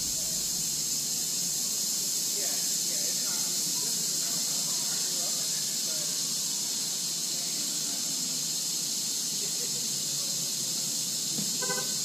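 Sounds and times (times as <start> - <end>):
steady high-pitched hiss: 0.0 - 12.0.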